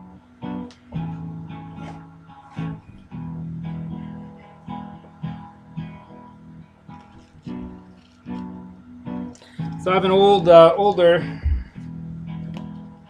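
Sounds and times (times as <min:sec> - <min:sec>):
guitar chords ringing: 0:00.0 - 0:13.0.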